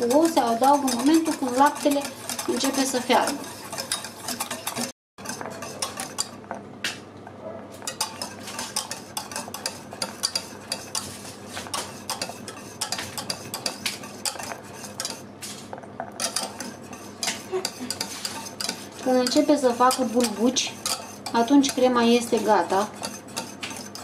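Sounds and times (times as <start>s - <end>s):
utensil scraping a pot: 0.0s - 6.5s, 7.7s - 24.0s.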